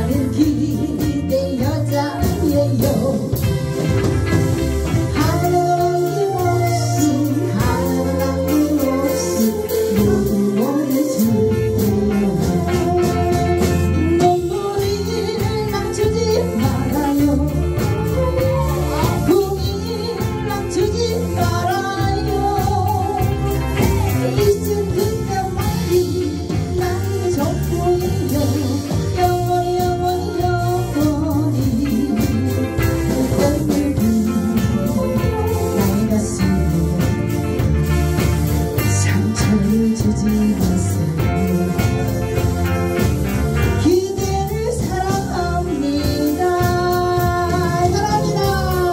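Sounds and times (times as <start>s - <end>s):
band playing: 0.0s - 48.9s
woman singing: 0.0s - 48.9s.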